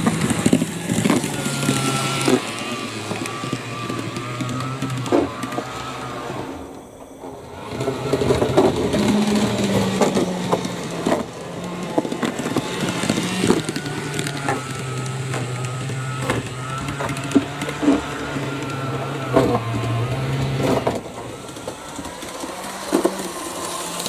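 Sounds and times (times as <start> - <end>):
model railcar motor whirring: 0.0 - 24.0.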